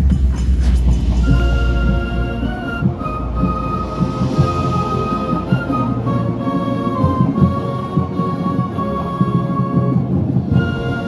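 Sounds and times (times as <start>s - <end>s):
marching band playing chords: 0.0s - 11.0s.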